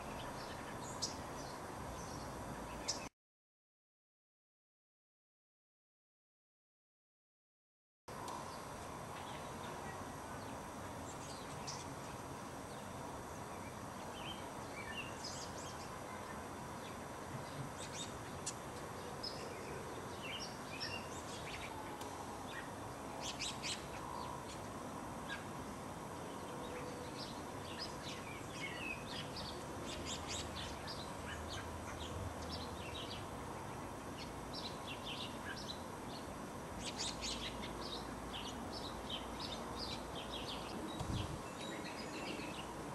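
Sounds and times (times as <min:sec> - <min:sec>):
birds chirping: 0:00.0 - 0:03.1, 0:08.2 - 0:42.9
steady background hiss: 0:00.0 - 0:03.1, 0:08.1 - 0:42.9.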